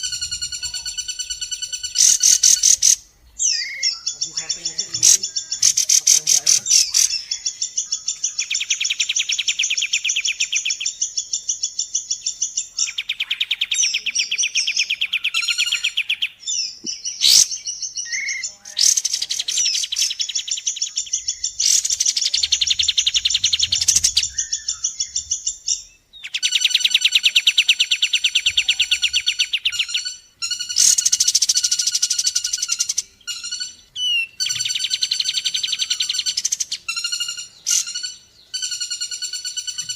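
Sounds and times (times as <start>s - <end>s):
songbird trilling chirps: 0.0s - 39.9s.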